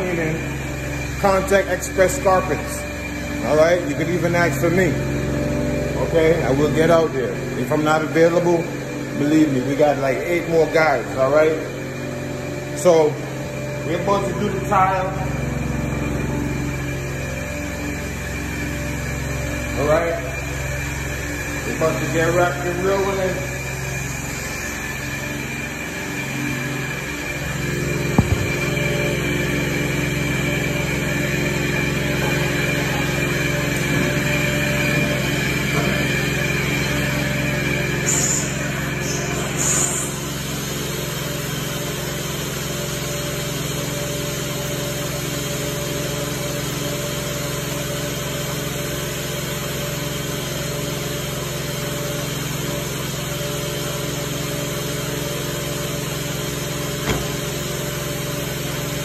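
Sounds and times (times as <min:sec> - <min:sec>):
cleaning machine drone: 0:00.0 - 0:59.0.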